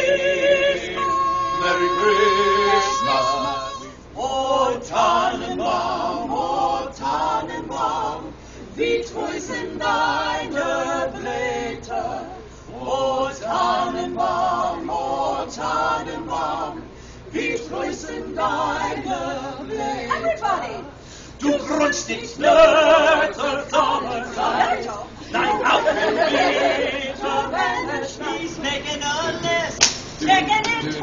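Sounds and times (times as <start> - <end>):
carolers singing a cappella: 0.0 - 31.0.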